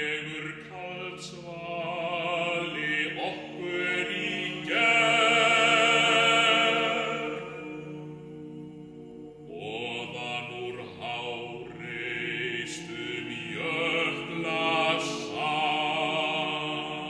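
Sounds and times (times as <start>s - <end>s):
male choir singing a cappella: 0.0s - 17.0s.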